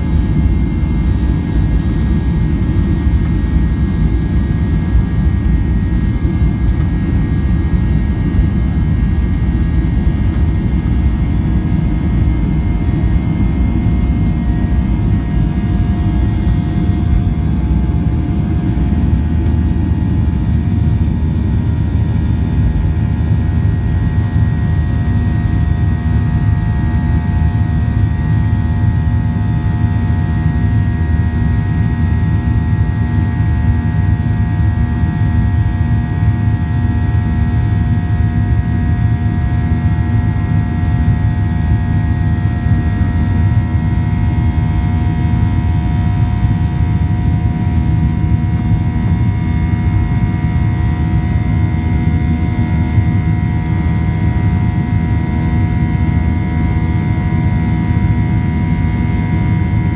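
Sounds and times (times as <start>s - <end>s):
jet engine drone with high whine: 0.0s - 59.9s.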